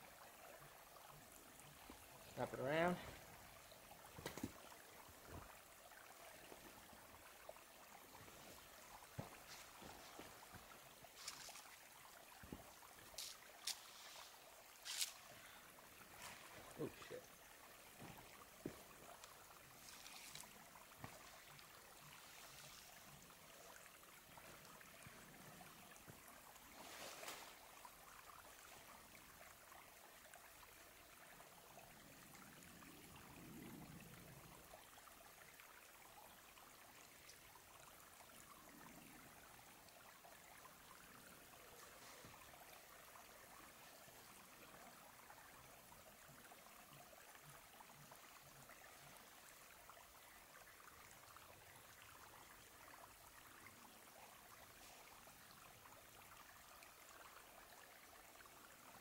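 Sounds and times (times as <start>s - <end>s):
faint outdoor hiss: 0.0s - 59.0s.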